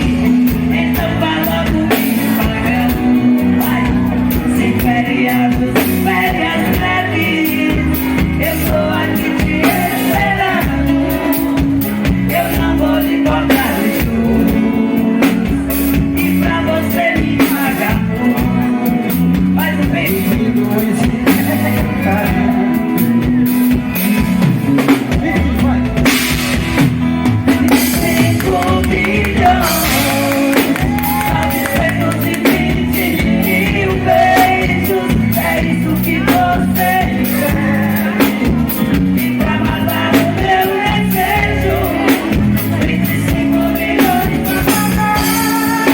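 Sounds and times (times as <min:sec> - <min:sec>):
drums: 0:00.0 - 0:45.9
steady bass line: 0:00.0 - 0:45.9
woman singing lead: 0:00.0 - 0:45.9.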